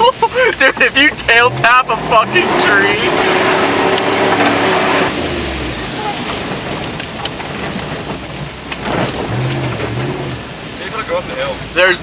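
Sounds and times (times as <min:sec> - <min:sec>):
tyres rushing on dirt trail: 0:00.0 - 0:12.0
engine running low: 0:00.6 - 0:10.8.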